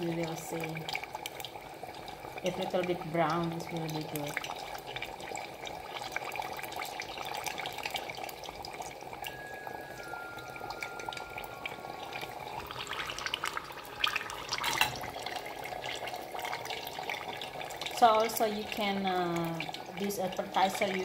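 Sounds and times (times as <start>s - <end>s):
food frying in oil: 0.0s - 21.0s.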